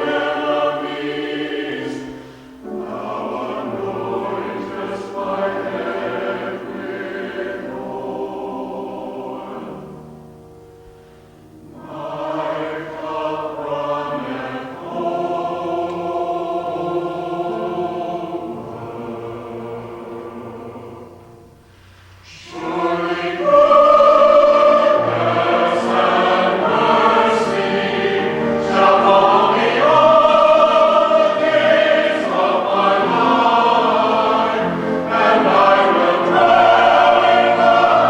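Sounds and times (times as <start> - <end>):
choir singing held notes: 0.0 - 38.0.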